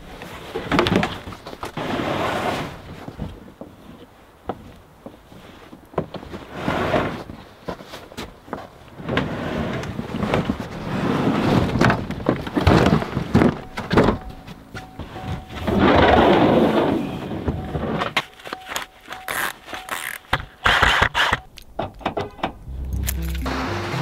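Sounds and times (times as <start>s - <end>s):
plastic sled scraping and thunking: 0.0s - 22.6s.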